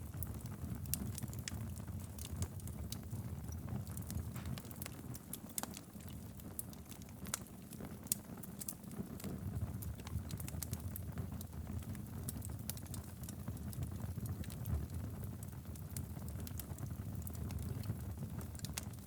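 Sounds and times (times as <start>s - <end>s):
fire flame rumble: 0.0s - 19.0s
logs crackling and popping: 0.0s - 19.0s.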